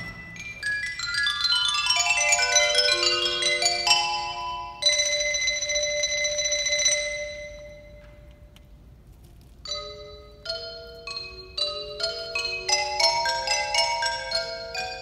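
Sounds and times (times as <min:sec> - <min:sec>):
xylophone struck with mallets: 0:00.0 - 0:08.2, 0:09.7 - 0:15.0.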